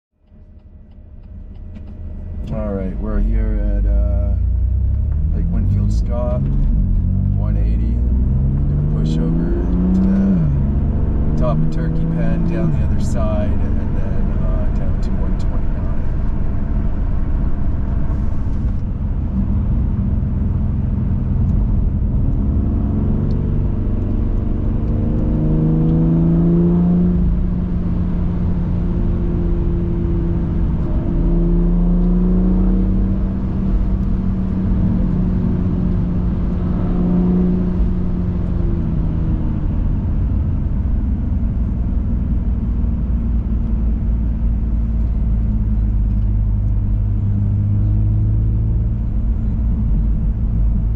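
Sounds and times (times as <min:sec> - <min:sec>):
car engine accelerating: 0:00.2 - 0:50.9
road and tyre noise: 0:00.2 - 0:50.9.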